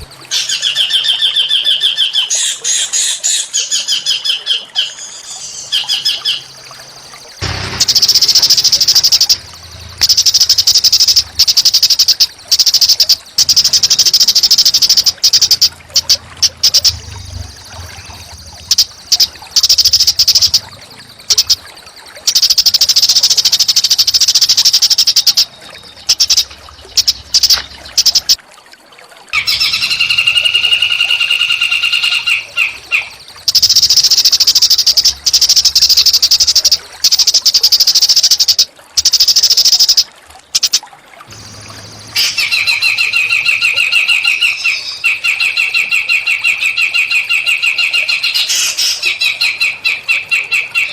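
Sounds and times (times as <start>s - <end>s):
songbird buzzing trills: 5.0s - 28.4s, 29.4s - 49.8s.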